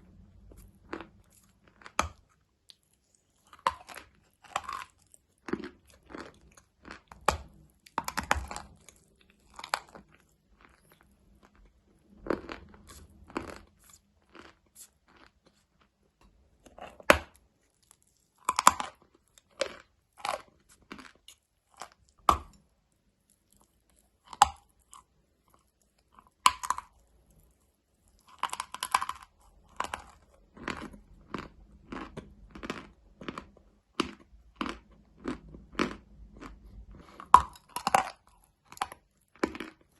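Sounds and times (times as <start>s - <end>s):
person crunching hard food: 0.1s - 16.0s, 16.6s - 22.7s, 23.4s - 27.5s, 28.1s - 39.9s.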